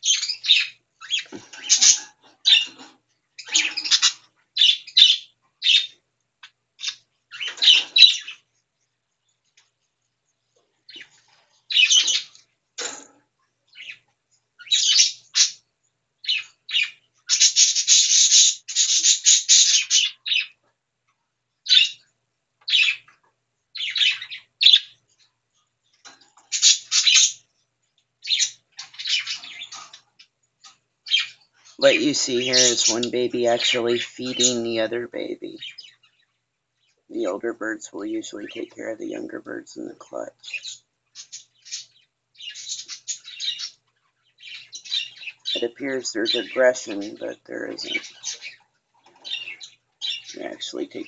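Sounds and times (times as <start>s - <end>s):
baby birds squawking and chirping: 0.0s - 8.5s, 10.9s - 13.1s, 13.7s - 20.6s, 21.7s - 23.2s, 23.8s - 25.3s, 26.1s - 27.6s, 28.2s - 51.0s.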